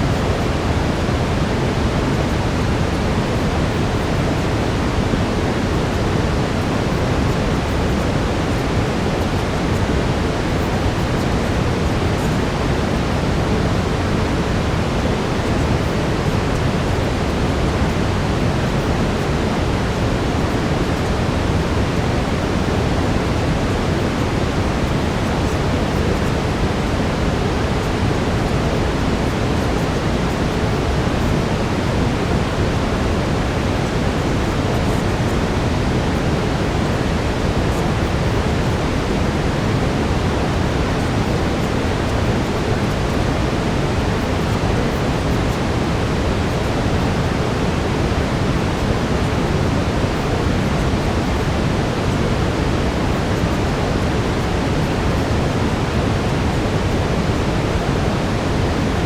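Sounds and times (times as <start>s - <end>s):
deep rushing brown noise: 0.0s - 59.0s.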